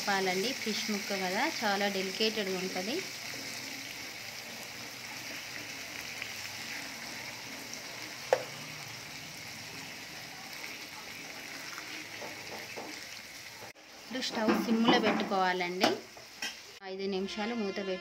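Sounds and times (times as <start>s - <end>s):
fish sizzling in oil: 0.0s - 16.8s.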